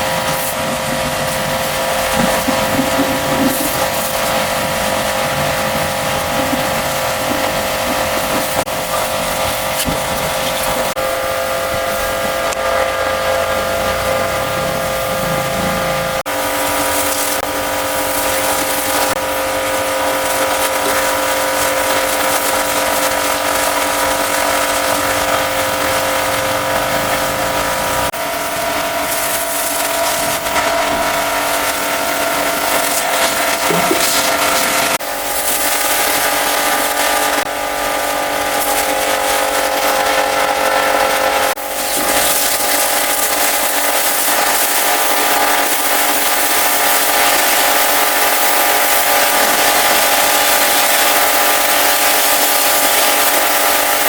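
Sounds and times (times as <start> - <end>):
pressure washer motor whine: 0.0 - 54.0
water jet hissing: 0.0 - 54.0.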